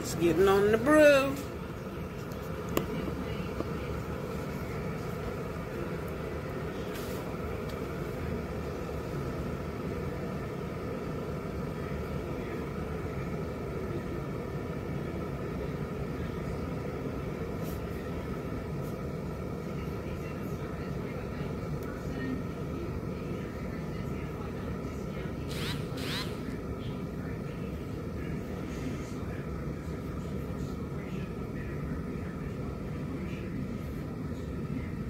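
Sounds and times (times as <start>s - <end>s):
electric kettle heating water: 0.0s - 25.5s, 26.4s - 35.0s.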